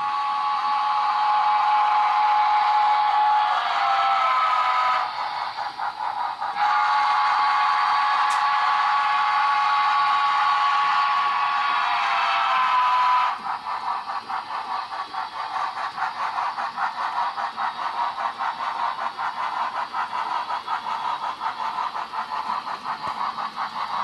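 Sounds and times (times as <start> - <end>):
model steam locomotive chuffing: 0.0 - 24.0.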